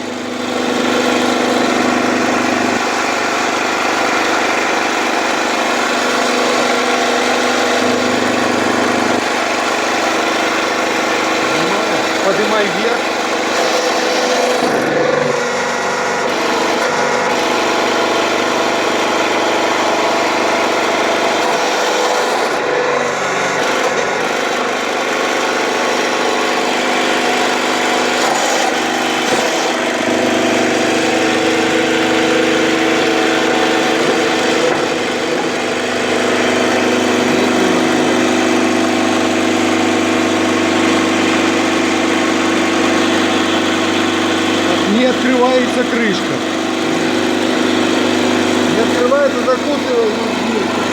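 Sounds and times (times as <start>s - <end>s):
press motor humming: 0.0s - 50.9s.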